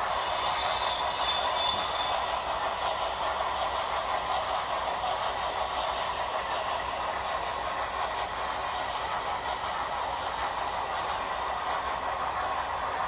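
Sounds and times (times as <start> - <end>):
model train rushing noise: 0.0 - 13.0.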